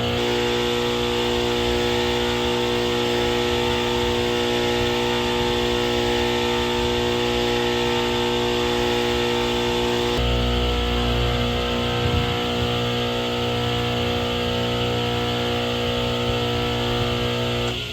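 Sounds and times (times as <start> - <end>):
table saw motor humming: 0.0 - 17.9.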